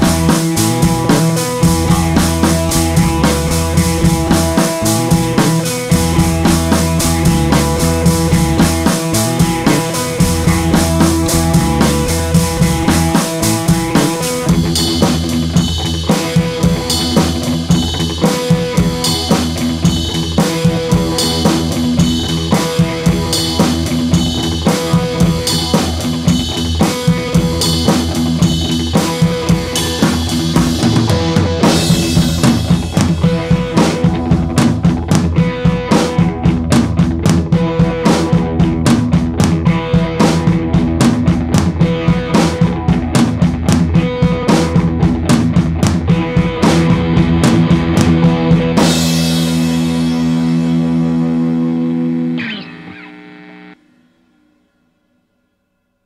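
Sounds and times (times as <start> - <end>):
upbeat music with drum beat: 0.0 - 50.9.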